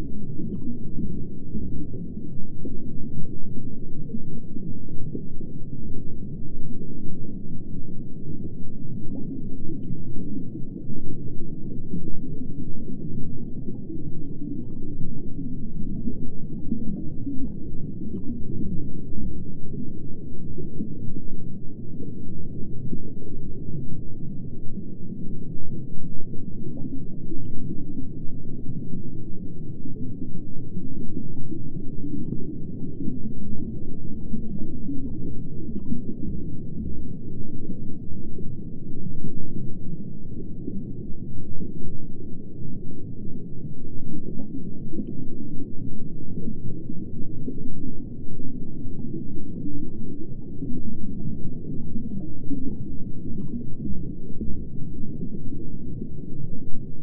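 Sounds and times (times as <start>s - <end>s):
muffled underwater rumble: 0.0s - 57.0s.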